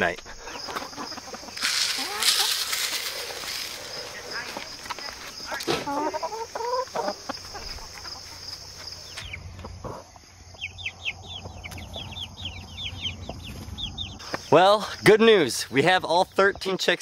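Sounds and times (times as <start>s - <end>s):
chickens clucking: 0.0s - 15.1s
high insect hum: 0.0s - 15.4s
chicks peeping: 0.1s - 15.1s.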